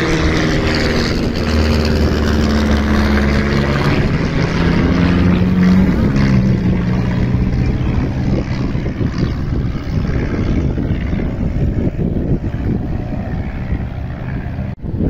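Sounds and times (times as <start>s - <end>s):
propeller plane engine droning: 0.0s - 15.0s
wind rumbling on microphone: 0.0s - 15.0s.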